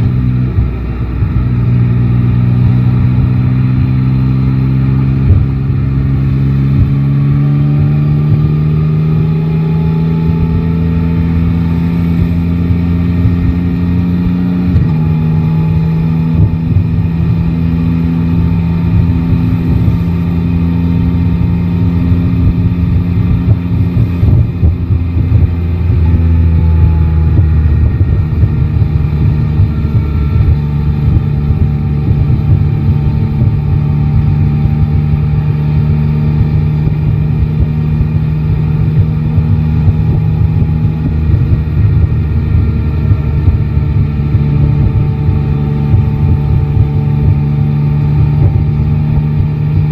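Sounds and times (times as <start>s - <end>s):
low wind rumble on microphone: 0.0s - 49.9s
motorcycle engine running: 0.0s - 49.9s.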